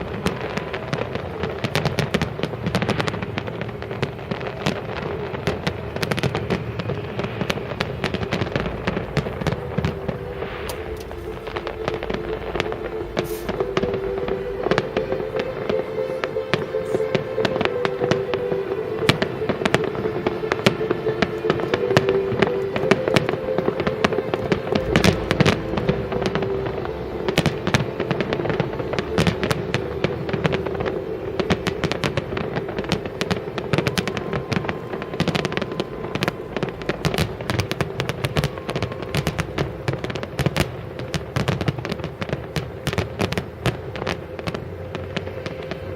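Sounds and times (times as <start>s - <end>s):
fireworks bangs and crackling: 0.0s - 45.9s
sustained tones changing pitch: 0.0s - 45.9s.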